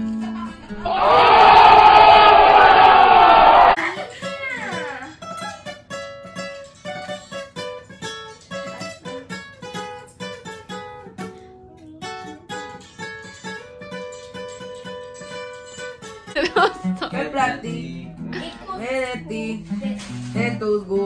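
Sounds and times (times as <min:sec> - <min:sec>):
acoustic guitar melody: 0:00.0 - 0:00.8, 0:03.8 - 0:21.0.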